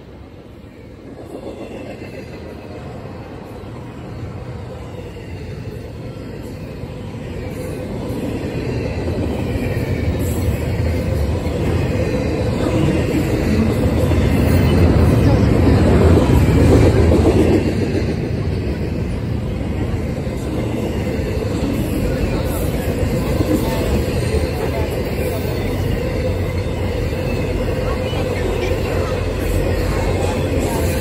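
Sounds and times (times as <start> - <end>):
freight train wheels clattering on rails: 0.9 - 31.0.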